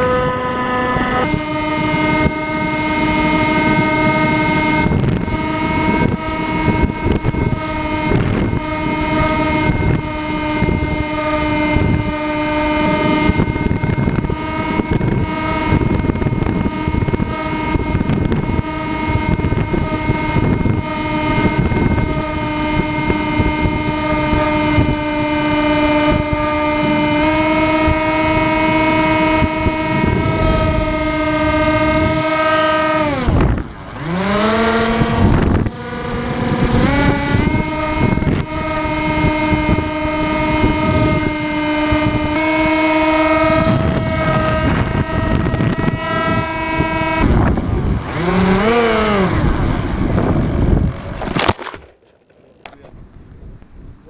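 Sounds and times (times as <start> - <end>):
wind rushing over microphone: 0.0 - 52.0, 52.7 - 54.0
model plane motor whine: 0.0 - 53.2.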